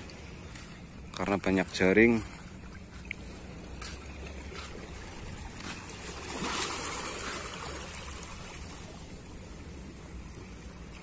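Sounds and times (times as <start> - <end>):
waves lapping against rocks: 0.0 - 11.0.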